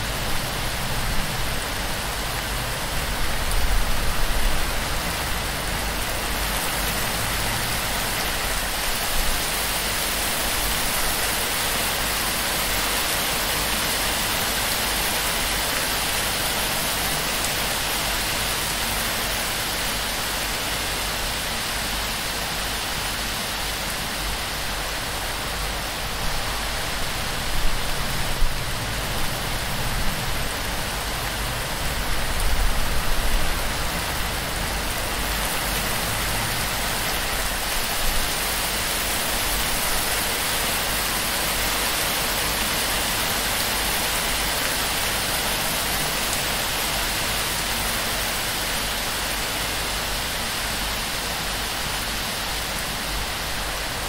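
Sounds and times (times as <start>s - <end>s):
heavy rain on thatch roof: 0.0s - 54.0s.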